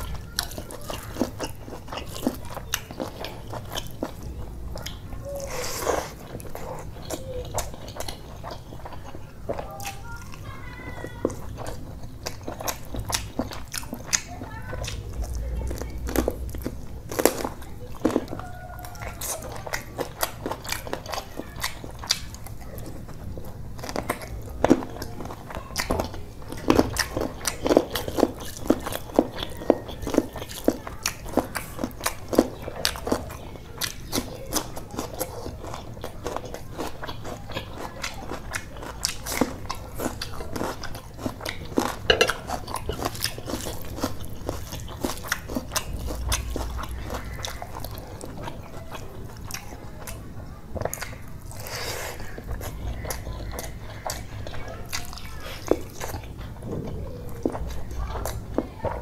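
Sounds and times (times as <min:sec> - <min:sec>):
mouth chewing food: 0:00.0 - 0:59.0.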